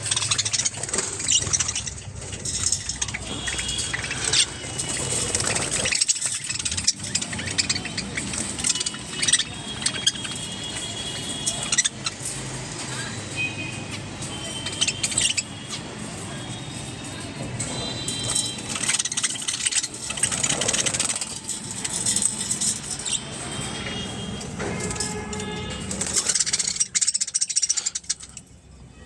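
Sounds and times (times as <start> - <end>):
budgerigars chirping: 0.0 - 25.1, 25.8 - 28.4.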